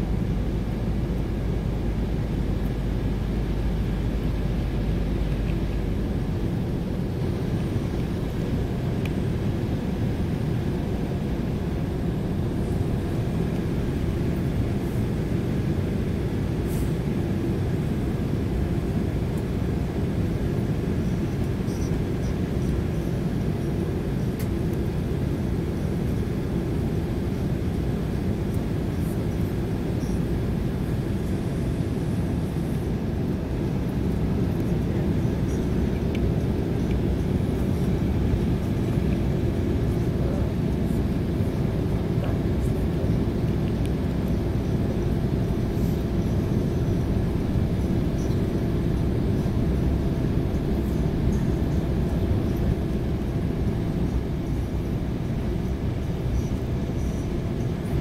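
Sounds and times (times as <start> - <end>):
jet engine low rumble: 0.0 - 58.0.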